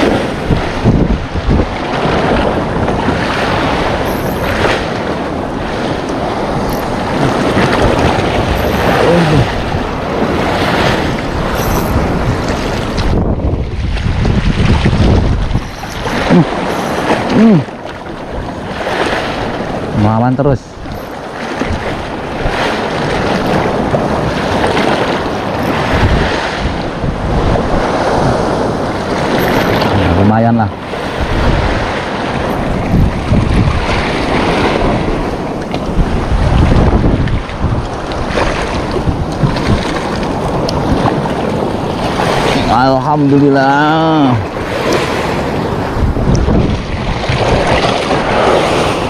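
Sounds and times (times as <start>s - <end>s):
sea waves washing ashore: 0.0s - 49.0s
wind buffeting microphone: 0.0s - 49.0s.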